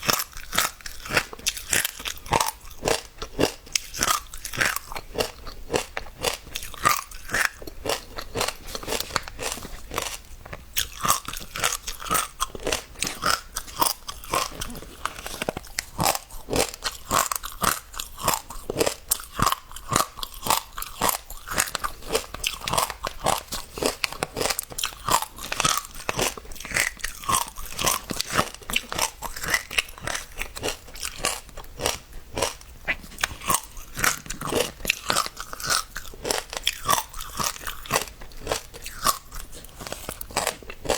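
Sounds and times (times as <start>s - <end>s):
seeds crunching as chewed: 0.0s - 40.9s.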